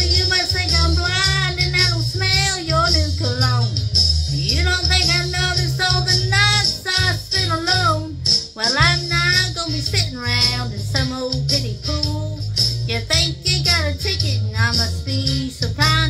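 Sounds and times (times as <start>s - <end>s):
woman singing country song: 0.0s - 3.8s, 4.4s - 16.0s
band backing track: 0.0s - 16.0s.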